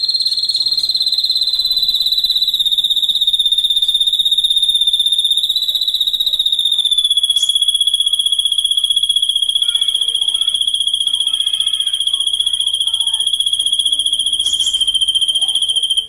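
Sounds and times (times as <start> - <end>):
faint bird chirp: 0.0 - 16.0
insect trilling: 0.0 - 16.0.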